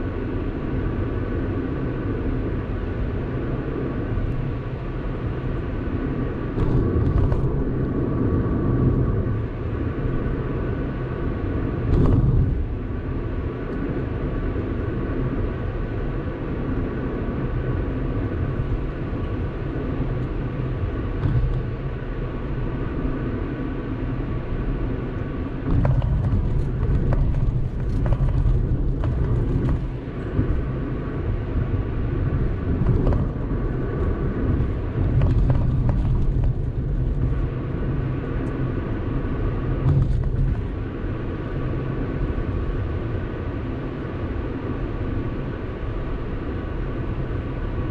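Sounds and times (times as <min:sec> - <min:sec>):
car tyres and engine rumble: 0:00.0 - 0:47.9.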